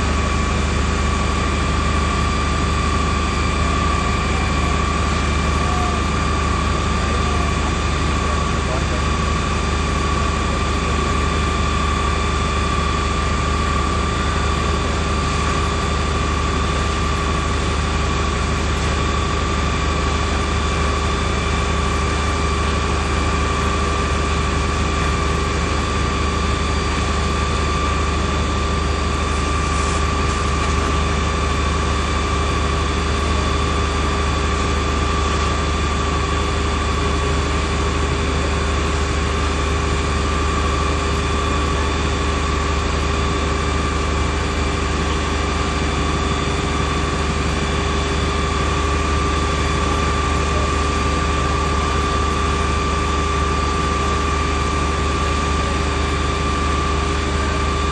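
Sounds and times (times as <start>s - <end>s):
engine drone with high whine: 0.0s - 57.9s.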